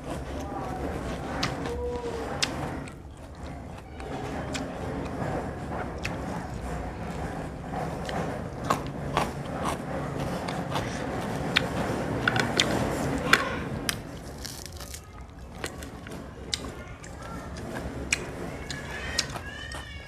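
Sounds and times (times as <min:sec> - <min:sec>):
chewing and crunching food: 0:00.0 - 0:20.0.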